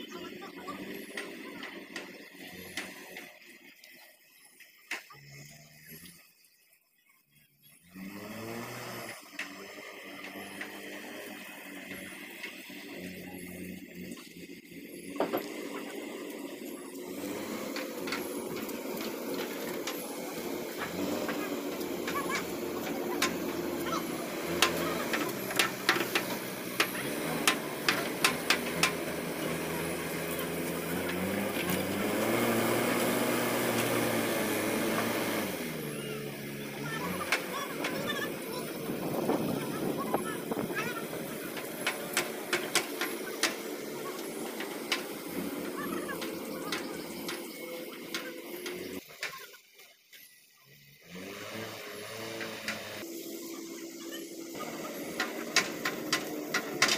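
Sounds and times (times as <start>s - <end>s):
diesel engine revving: 0.0s - 3.8s, 5.1s - 6.6s, 7.6s - 49.1s, 50.8s - 56.9s.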